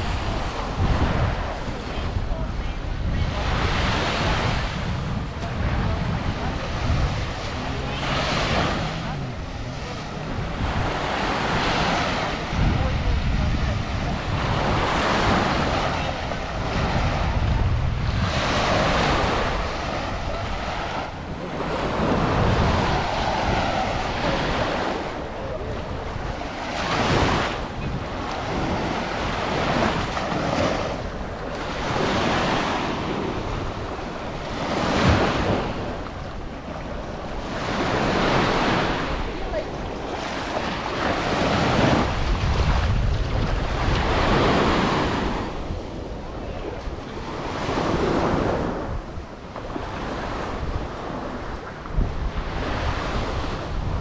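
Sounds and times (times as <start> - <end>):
small waves breaking on beach: 0.0 - 54.0
wind buffeting microphone: 0.0 - 54.0.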